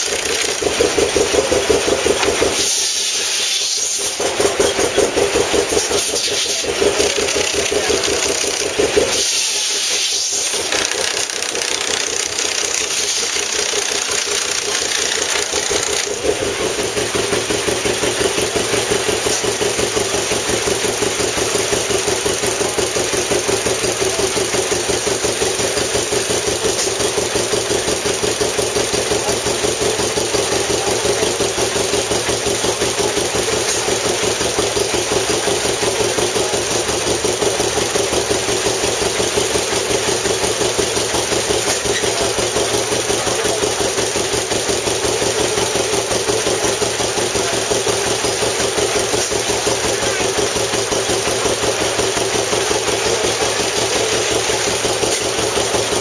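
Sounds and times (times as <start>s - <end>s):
stationary gas engine running: 0.0s - 56.0s.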